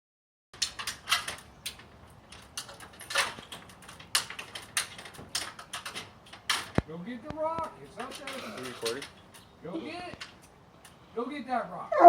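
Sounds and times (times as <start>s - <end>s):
dog claws clicking on ladder: 0.6s - 11.0s.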